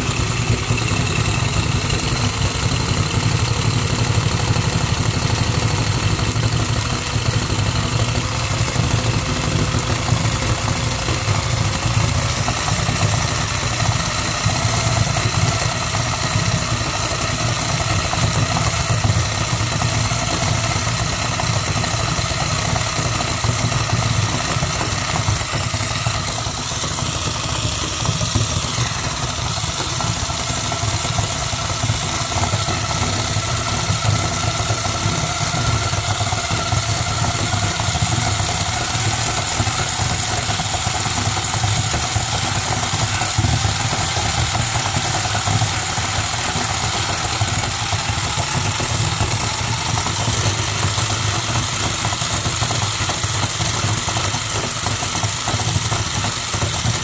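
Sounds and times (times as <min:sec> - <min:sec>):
toy motor and gears buzzing: 0:00.0 - 0:57.0.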